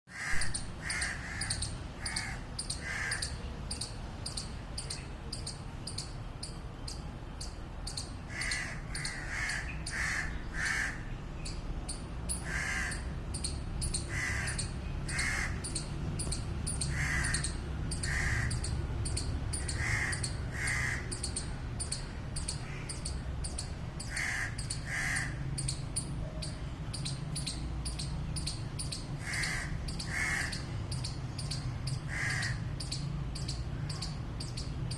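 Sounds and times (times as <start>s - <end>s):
squirrel alarm calls: 0.1s - 34.9s.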